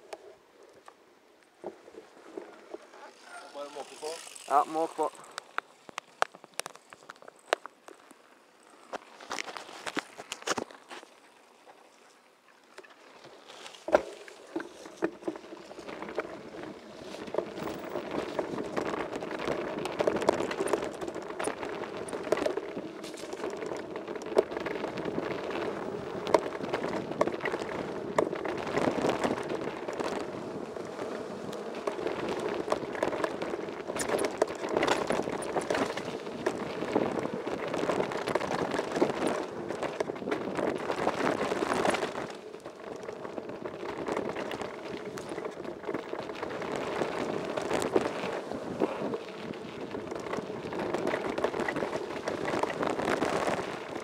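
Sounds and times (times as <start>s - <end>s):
bike rattling over stones: 0.0s - 54.0s
bike tyres crunching on gravel: 0.0s - 54.0s.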